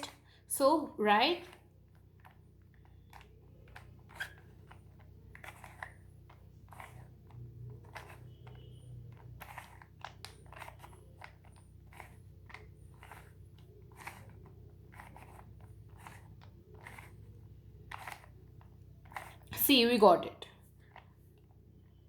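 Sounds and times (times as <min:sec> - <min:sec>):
puzzle cube clicking: 0:01.4 - 0:19.7.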